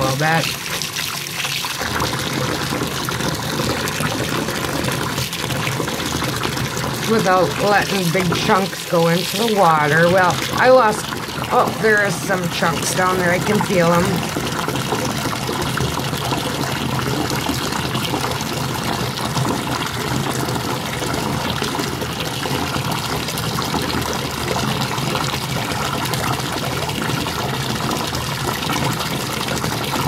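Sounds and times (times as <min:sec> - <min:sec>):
tap water running into bathtub: 0:00.0 - 0:30.0.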